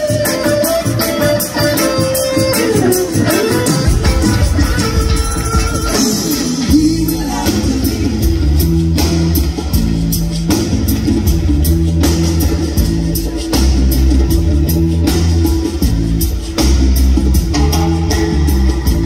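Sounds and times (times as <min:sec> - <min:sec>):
live reggae band playing: 0:00.0 - 0:19.0.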